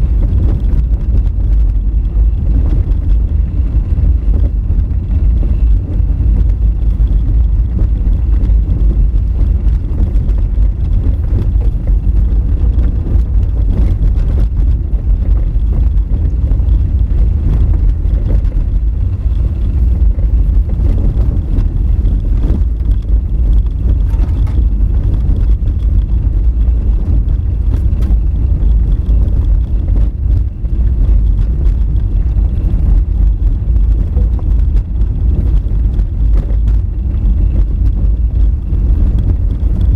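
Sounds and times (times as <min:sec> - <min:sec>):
car rumbling on dirt road: 0:00.0 - 0:39.9.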